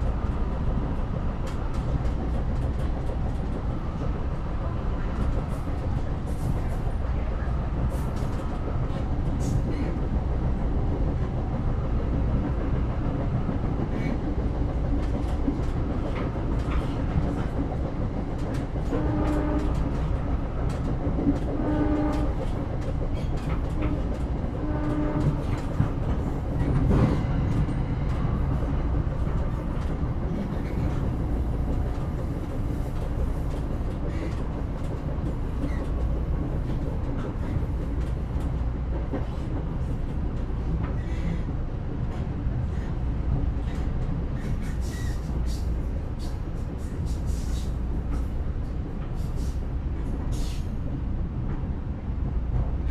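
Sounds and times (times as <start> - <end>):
train rumbling on rails: 0.0 - 52.9.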